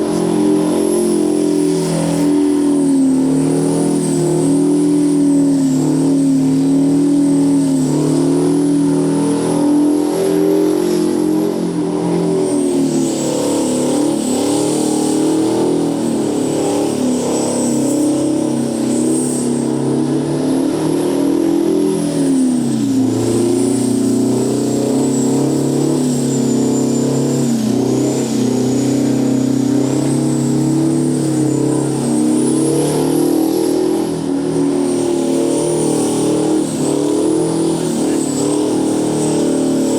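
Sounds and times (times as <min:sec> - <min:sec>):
diesel engine revving hard: 0:00.0 - 0:39.9.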